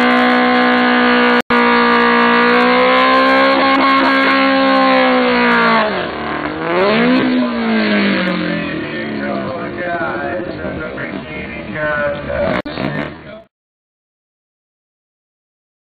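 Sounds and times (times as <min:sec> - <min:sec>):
car engine at high revs: 0:00.0 - 0:13.4.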